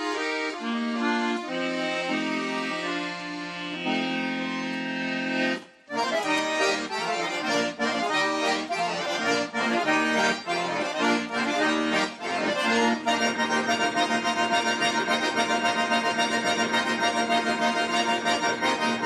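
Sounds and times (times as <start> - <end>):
accordions playing folk music: 0.0 - 19.0.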